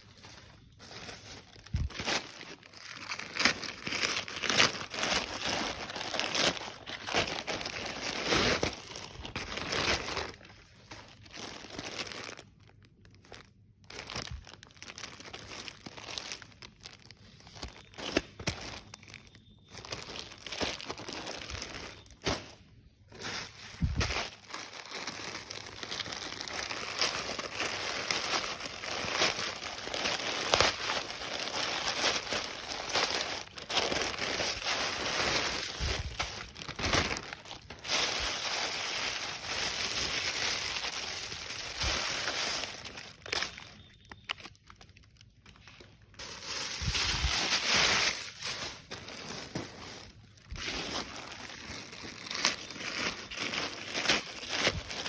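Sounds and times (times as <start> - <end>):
packaging crinkling and rustling: 0.0 - 55.0.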